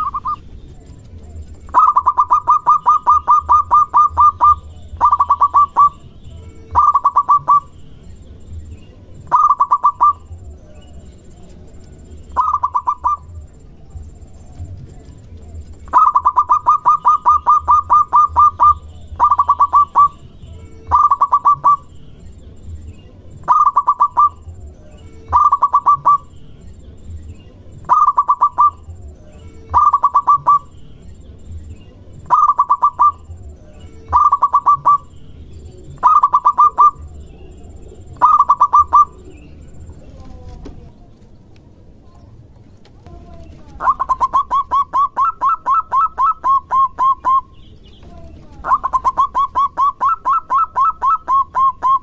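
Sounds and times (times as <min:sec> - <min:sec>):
dove cooing: 0:00.0 - 0:07.8, 0:09.0 - 0:22.0, 0:23.2 - 0:26.3, 0:27.6 - 0:30.8, 0:31.9 - 0:41.1, 0:43.0 - 0:52.0.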